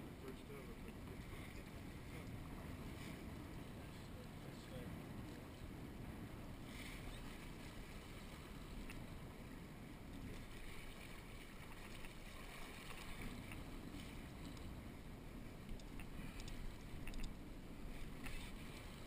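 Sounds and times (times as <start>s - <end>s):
water noise: 0.0s - 19.0s.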